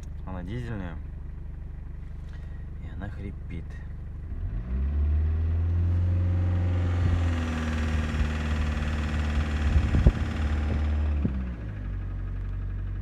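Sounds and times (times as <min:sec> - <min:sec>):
diesel engine knocking: 0:00.0 - 0:13.0.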